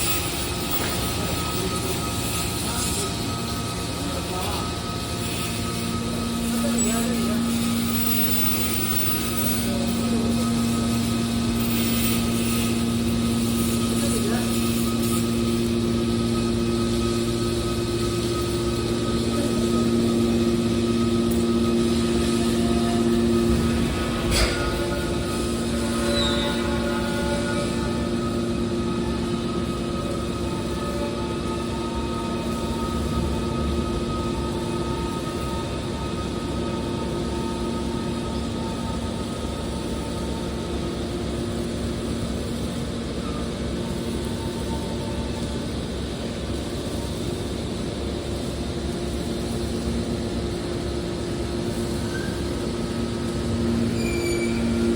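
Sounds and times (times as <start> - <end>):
baler motor and pump humming: 0.0 - 54.9.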